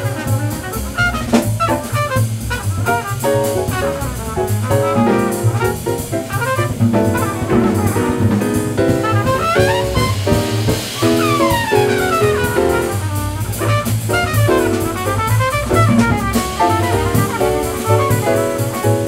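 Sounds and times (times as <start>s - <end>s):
double bass: 0.0s - 19.0s
drum kit: 0.0s - 19.0s
piano: 0.0s - 19.0s
trumpet playing lead line: 0.0s - 19.0s.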